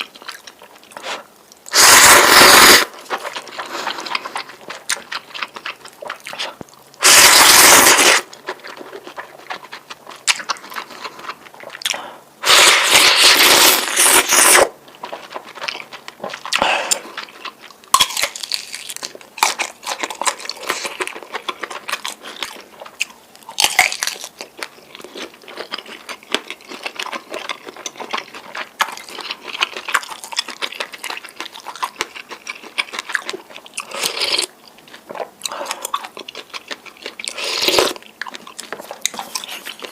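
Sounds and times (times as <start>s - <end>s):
chewing noodles: 0.0s - 39.9s.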